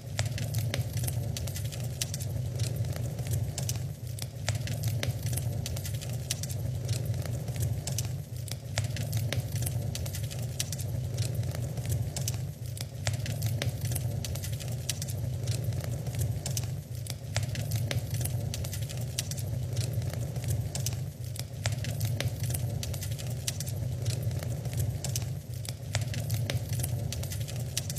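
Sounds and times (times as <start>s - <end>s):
low rumble of flames: 0.0s - 27.9s
wood fire pops and snaps: 0.0s - 27.9s.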